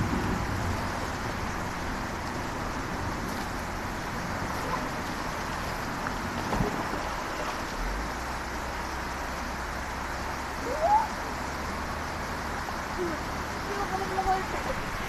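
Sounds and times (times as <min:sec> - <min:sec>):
distant diesel engine running: 0:00.0 - 0:15.0.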